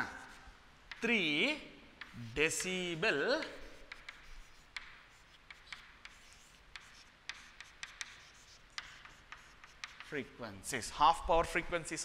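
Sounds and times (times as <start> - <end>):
chalk writing on chalkboard: 0.0 - 10.4.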